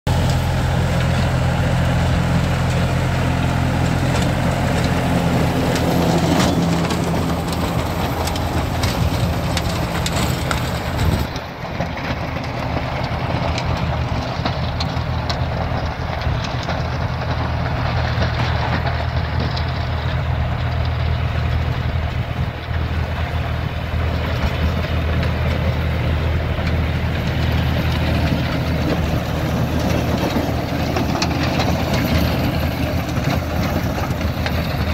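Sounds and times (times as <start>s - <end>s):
tractor diesel engine: 0.0s - 34.9s
rotavator blades crunching soil: 0.1s - 34.9s.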